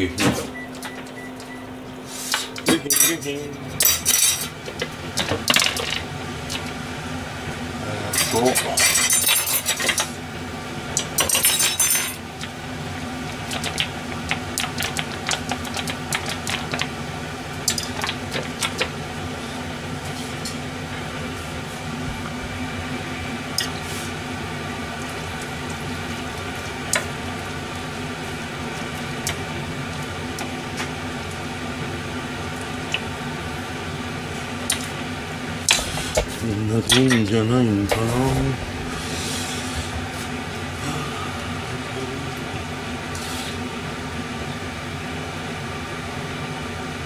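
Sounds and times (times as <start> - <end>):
stove hum: 0.0 - 47.0.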